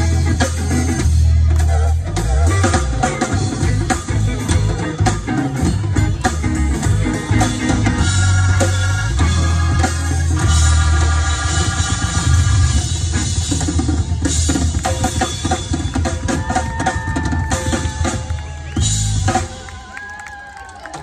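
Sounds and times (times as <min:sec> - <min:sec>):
heavy bass: 0:00.0 - 0:19.8
drum kit beat: 0:00.0 - 0:20.0.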